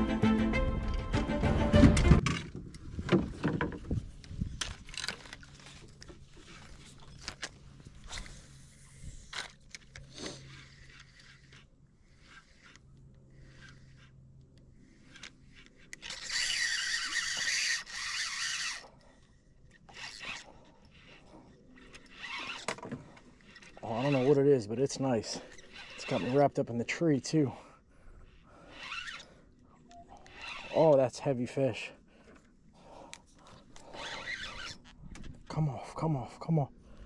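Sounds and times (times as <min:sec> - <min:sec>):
fishing reel whirring: 0:04.7 - 0:35.2.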